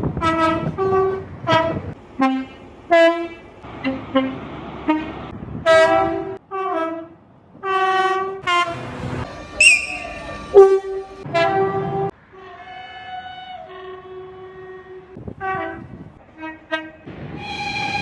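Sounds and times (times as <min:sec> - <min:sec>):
train horn blasts: 0:00.0 - 0:18.0
train running noise: 0:00.0 - 0:18.0.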